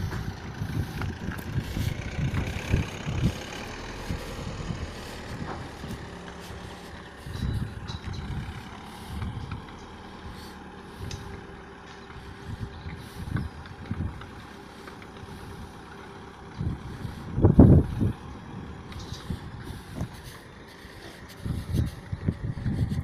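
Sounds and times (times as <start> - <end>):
car engine running: 0.0 - 23.0
wind buffeting microphone: 0.0 - 23.0.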